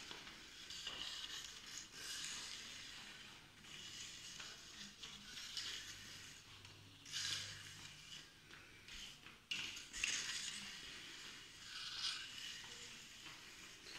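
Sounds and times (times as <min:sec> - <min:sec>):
ball scraping across tiled floor: 0:00.0 - 0:13.9.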